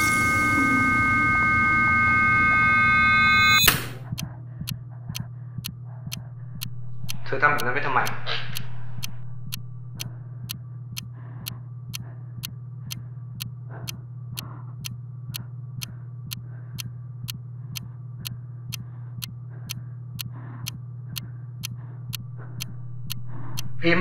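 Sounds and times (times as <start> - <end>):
steady low hum: 0.0 - 24.0
clock ticking: 3.6 - 24.0.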